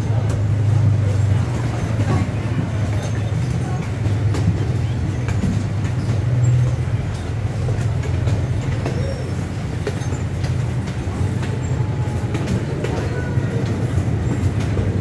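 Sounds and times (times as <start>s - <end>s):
train rumbling on track: 0.0s - 15.0s
wheels clicking over rails: 0.0s - 15.0s.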